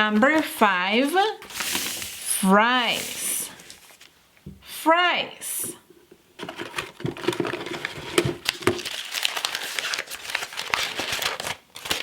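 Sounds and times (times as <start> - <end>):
crinkling and rustling: 0.1 - 4.2, 6.2 - 12.0.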